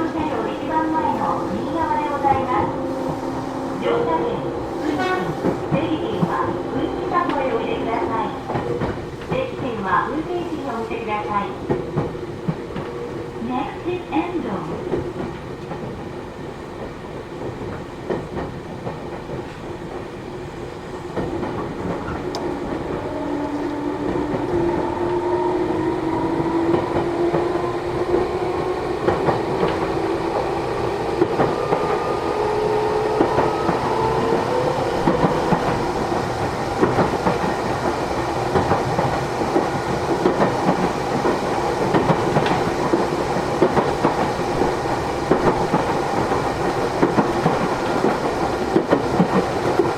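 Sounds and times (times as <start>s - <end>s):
train running noise: 0.0s - 49.9s.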